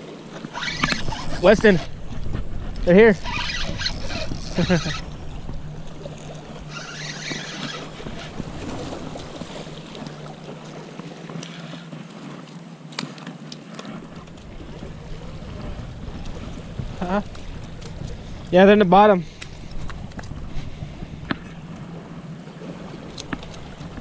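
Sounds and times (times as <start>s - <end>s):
wind buffeting microphone: 0.2s - 10.6s, 14.0s - 24.0s.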